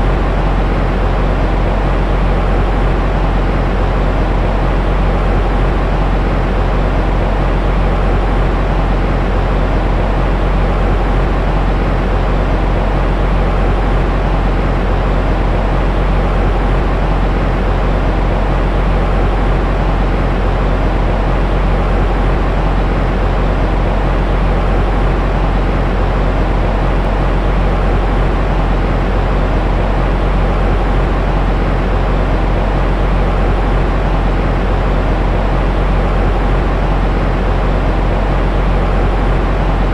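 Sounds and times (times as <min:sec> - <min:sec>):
white noise rumbling hiss: 0:00.0 - 0:39.9.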